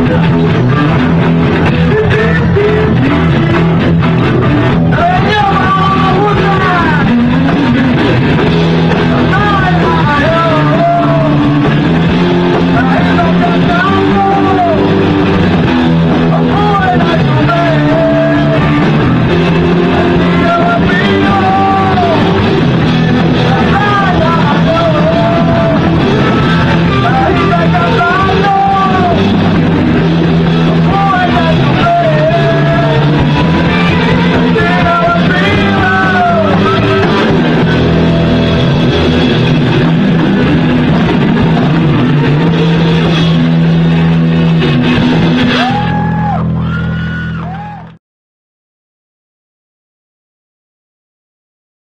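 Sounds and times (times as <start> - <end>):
high lead guitar line: 0.0 - 47.9
low bass notes: 0.0 - 48.0
rock band playing loudly: 0.0 - 48.0.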